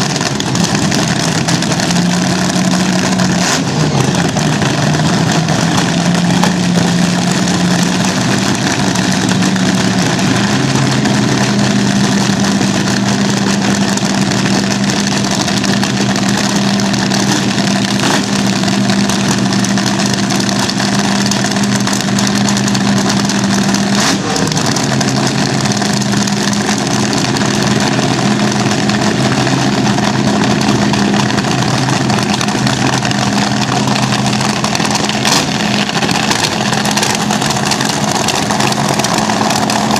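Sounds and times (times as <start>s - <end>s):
dragster engines idling: 0.0s - 39.9s.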